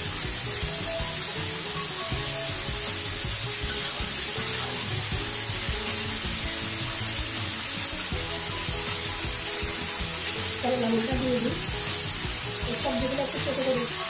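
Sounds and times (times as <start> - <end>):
background music: 0.0 - 14.0
vegetables sizzling in oil: 0.0 - 14.0.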